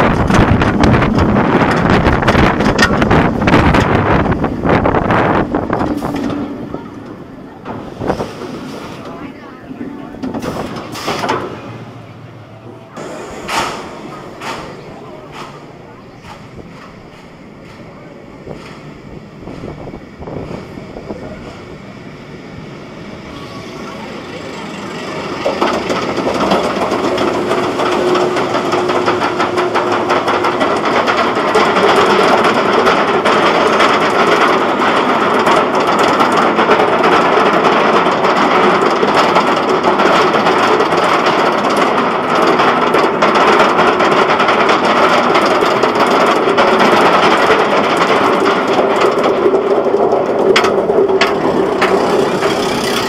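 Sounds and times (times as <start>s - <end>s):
roller coaster rattle and rumble: 0.0s - 53.0s.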